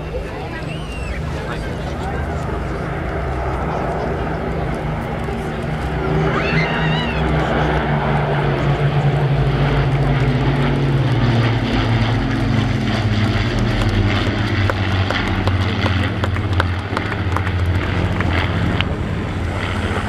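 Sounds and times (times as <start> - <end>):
propeller aircraft flying past: 0.0 - 20.0.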